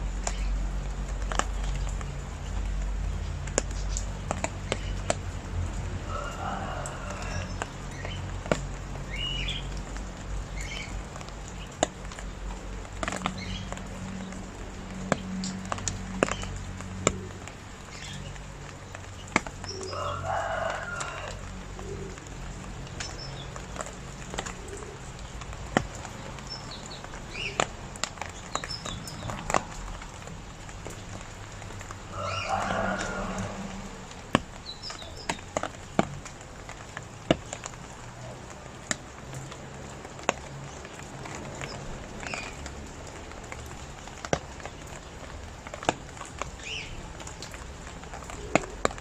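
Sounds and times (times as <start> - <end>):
steady rain: 0.0 - 49.0.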